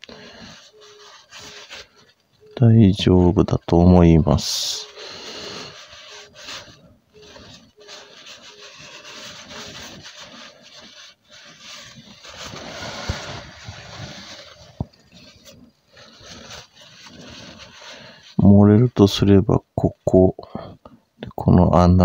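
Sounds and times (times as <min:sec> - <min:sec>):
paper towel rubbing and wiping: 0:00.0 - 0:19.4.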